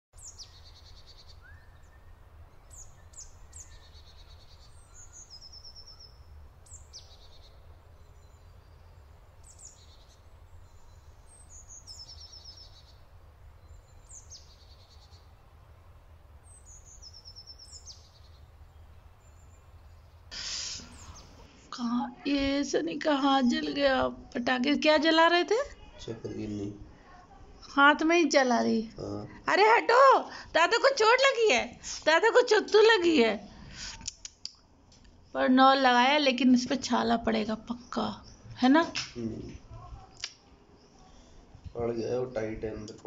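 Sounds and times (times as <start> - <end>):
birds chirping: 0.2 - 26.9, 27.6 - 43.0.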